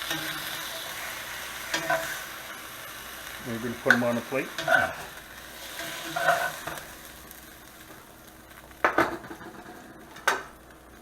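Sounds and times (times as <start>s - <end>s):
meat sizzling faintly in a pan: 0.0s - 11.0s.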